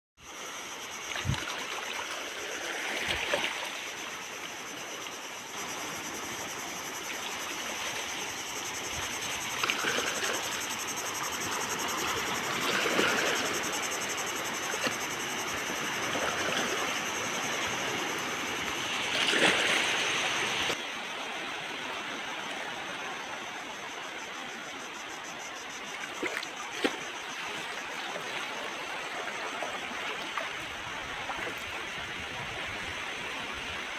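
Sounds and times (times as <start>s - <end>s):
crickets chirping: 0.2s - 33.9s
small waves washing on shore: 0.3s - 33.9s.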